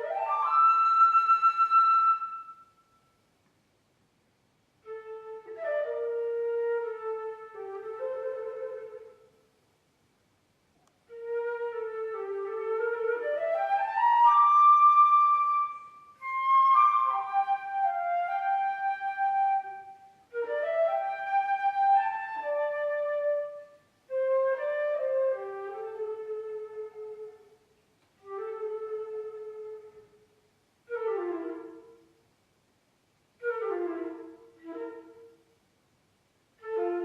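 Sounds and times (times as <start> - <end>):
solo flute playing: 0.0 - 3.2, 4.8 - 9.5, 11.1 - 32.2, 33.4 - 35.6, 36.6 - 37.0.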